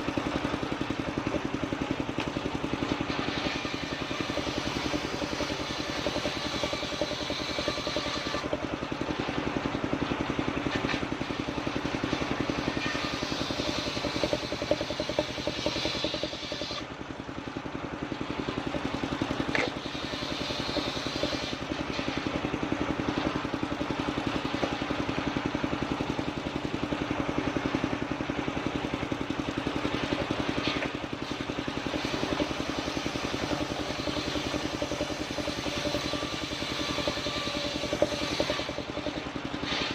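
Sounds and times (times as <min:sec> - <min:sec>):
saw blade cutting timber: 0:00.0 - 0:16.9, 0:18.2 - 0:25.2, 0:29.7 - 0:39.9
sawmill engine running: 0:00.0 - 0:39.9.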